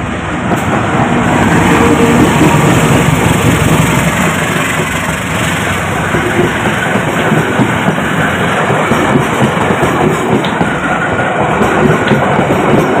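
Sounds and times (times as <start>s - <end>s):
diesel locomotive engine: 0.0s - 13.0s
train wheels rumbling on rails: 0.0s - 13.0s.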